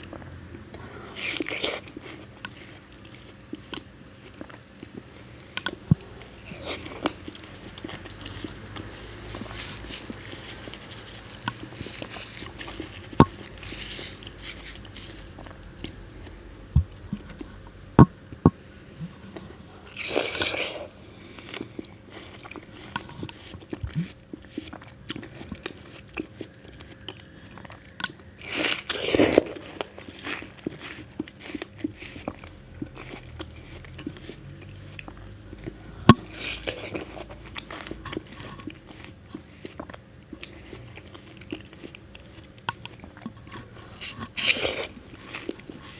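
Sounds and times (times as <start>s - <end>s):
biting and chewing watermelon: 0.0s - 45.9s.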